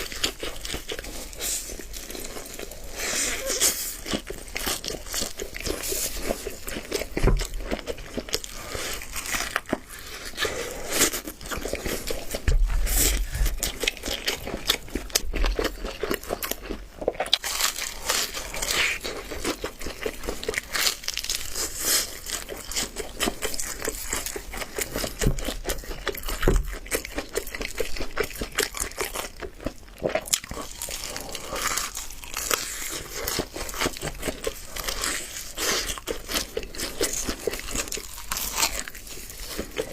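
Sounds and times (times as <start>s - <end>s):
crunchy fried chicken being chewed: 0.0s - 39.9s.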